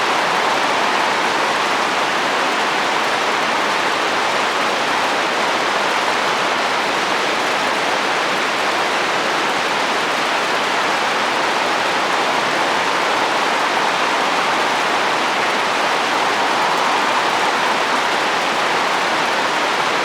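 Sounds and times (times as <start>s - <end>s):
rain falling on a roof: 0.0s - 20.0s
wind: 0.0s - 20.0s.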